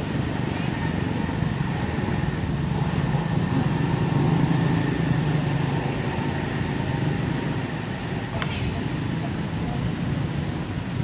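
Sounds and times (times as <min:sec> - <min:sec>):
motor vehicle engine humming: 0:00.0 - 0:11.0
outdoor background noise: 0:00.0 - 0:11.0.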